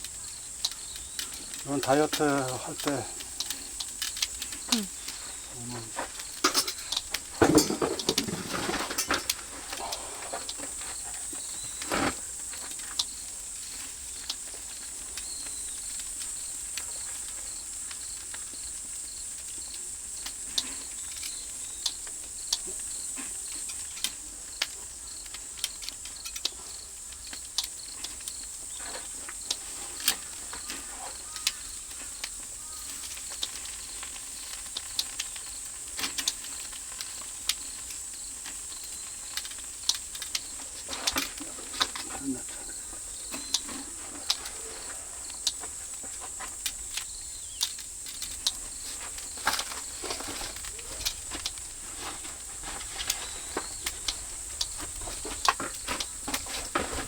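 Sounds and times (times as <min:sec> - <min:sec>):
fire popping and crackling: 0:00.0 - 0:57.0
meat sizzling hiss: 0:09.3 - 0:56.8.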